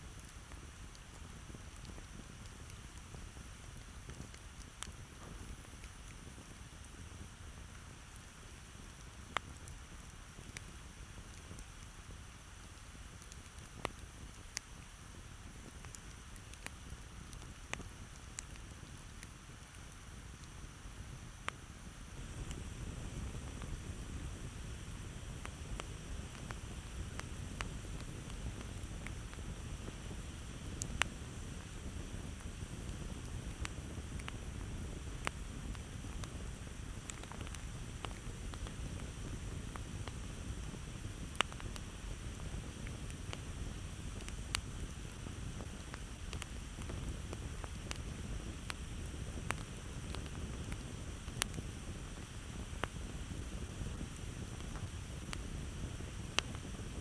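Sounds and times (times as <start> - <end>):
campfire crackling and popping: 0.0 - 57.0
low rumble of burning wood: 0.0 - 57.0.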